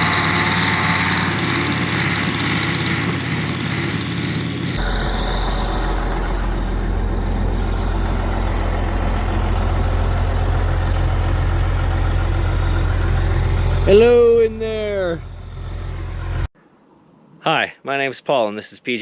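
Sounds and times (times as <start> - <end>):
heavy engine idling: 0.0 - 16.5.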